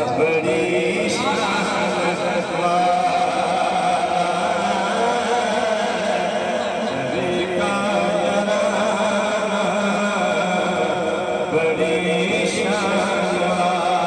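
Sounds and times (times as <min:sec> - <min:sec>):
men chanting devotional song: 0:00.0 - 0:14.0.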